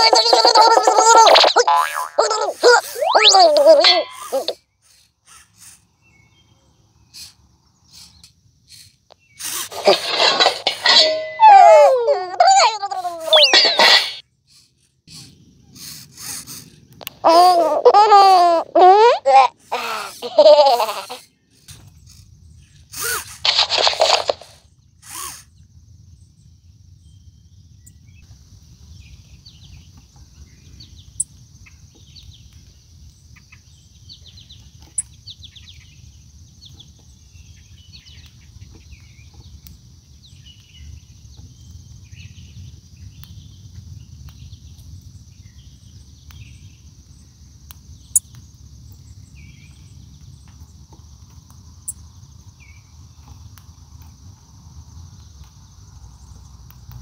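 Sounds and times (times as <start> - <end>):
wild birds chirping: 0.0 - 56.9
high insect drone: 0.0 - 57.0.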